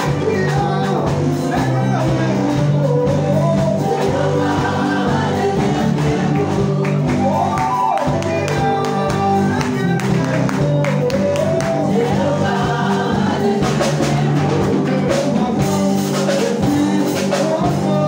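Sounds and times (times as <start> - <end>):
drum strikes: 0.0 - 18.0
keyboard chords: 0.0 - 18.0
singers singing gospel song: 0.0 - 18.0.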